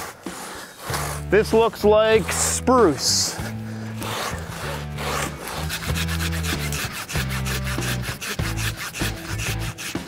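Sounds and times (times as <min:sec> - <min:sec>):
hand saw rasping through log: 0:00.0 - 0:10.0.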